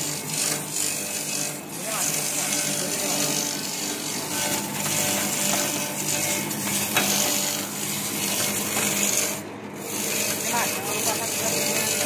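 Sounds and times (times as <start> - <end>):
machine motor hum: 0.0 - 12.0.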